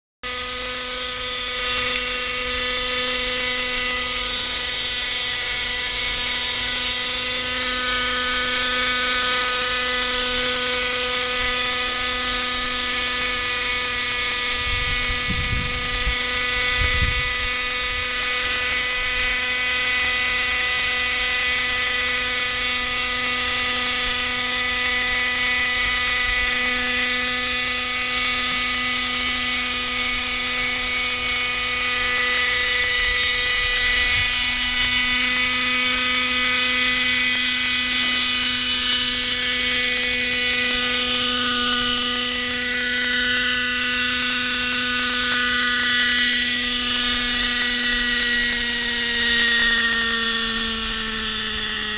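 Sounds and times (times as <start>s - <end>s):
model helicopter whine: 0.2s - 51.9s.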